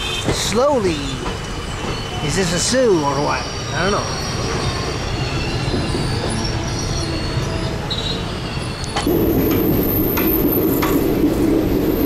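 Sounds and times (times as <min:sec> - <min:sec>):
train wheels rumbling and rattling: 0:00.0 - 0:12.0.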